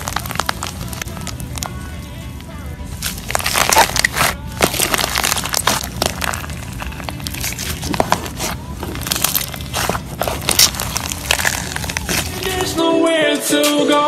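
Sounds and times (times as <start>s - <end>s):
crinkling and crackling: 0.0s - 12.8s
low steady hum: 0.0s - 12.9s.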